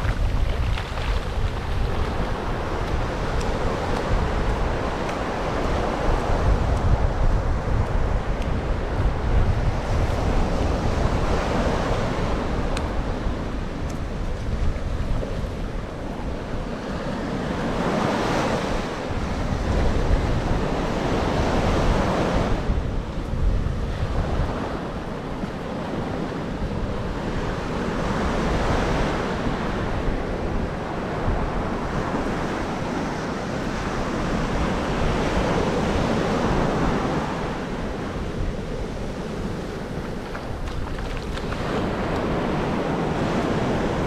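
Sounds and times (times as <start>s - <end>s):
waves breaking on shore: 0.0s - 44.0s
wind buffeting microphone: 0.0s - 44.0s.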